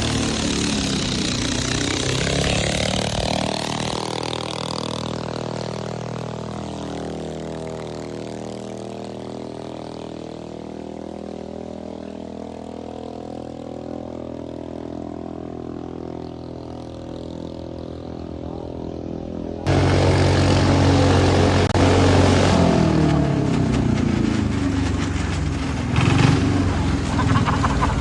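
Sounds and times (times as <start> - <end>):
boat diesel engine running: 0.0 - 28.0.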